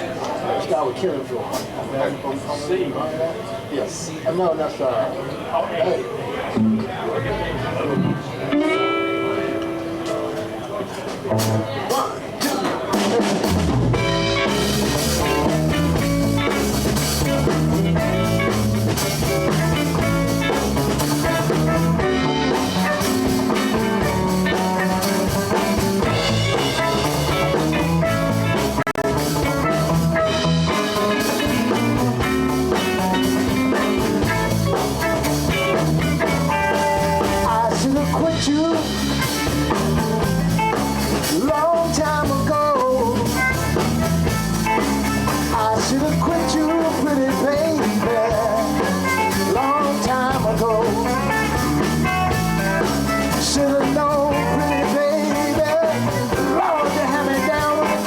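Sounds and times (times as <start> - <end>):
live blues band playing: 6.1 - 58.0
bending lead guitar notes: 6.5 - 11.9, 12.9 - 58.0.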